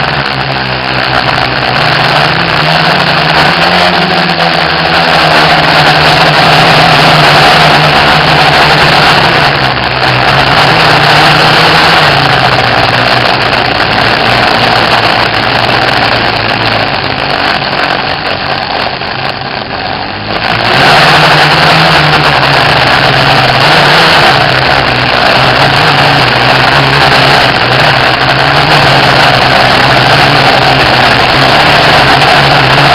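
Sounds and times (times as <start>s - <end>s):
drone propellers buzzing: 0.0s - 32.9s.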